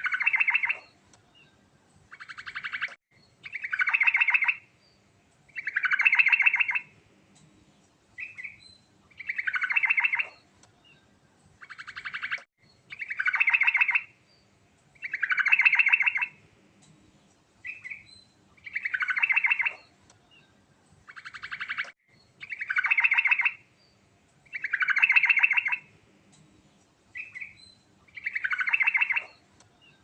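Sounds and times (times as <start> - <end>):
bird trilling song: 0.0 - 7.5, 8.2 - 25.9, 26.8 - 30.0
bird chirps: 0.0 - 30.0.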